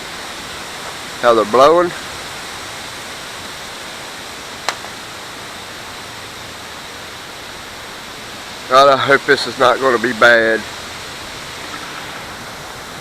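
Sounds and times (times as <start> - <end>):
gusty wind through trees: 0.0 - 13.0.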